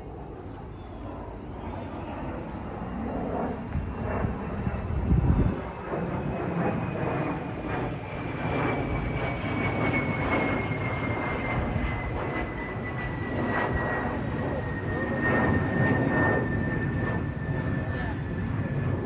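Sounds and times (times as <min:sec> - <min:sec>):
jet airliner flying overhead: 0:00.0 - 0:19.0.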